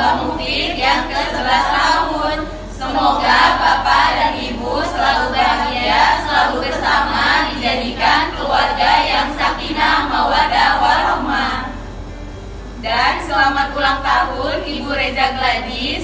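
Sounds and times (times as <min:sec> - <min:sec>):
group of voices singing: 0:00.0 - 0:11.8, 0:12.8 - 0:16.0.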